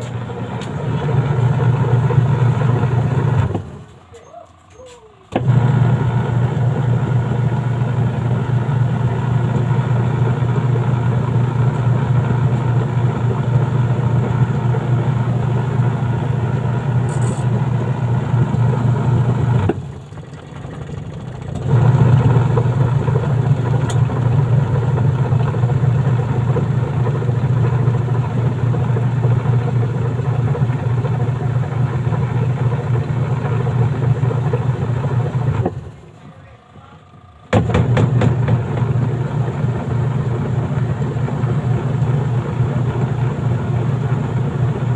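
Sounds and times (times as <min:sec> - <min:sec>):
washing machine motor humming: 0:00.0 - 0:44.9.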